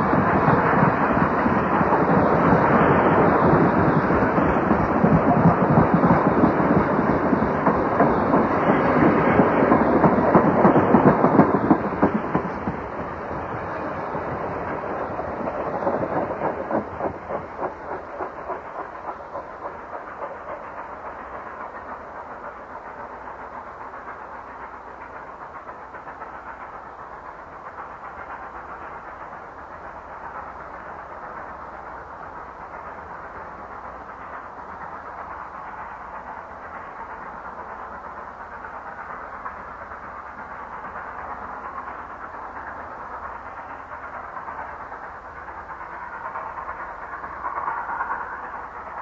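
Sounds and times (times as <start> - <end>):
steam train passing: 0.0 - 49.0.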